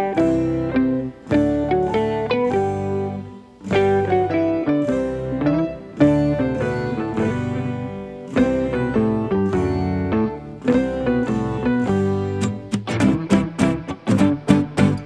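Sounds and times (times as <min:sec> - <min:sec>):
plucked string tune: 0:00.0 - 0:15.0.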